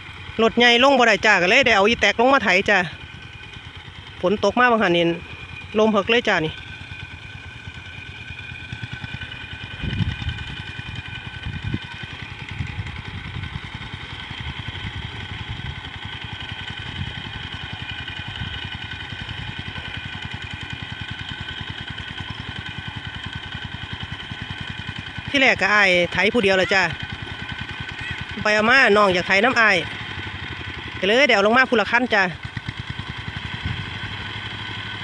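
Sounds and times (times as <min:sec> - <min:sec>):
diesel engines chugging: 0:00.0 - 0:35.0.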